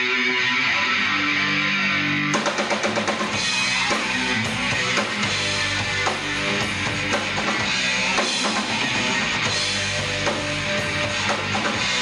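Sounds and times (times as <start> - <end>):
drum kit: 0.0 - 12.0
electric guitar chords: 0.0 - 12.0
live rock band playing: 0.0 - 12.0.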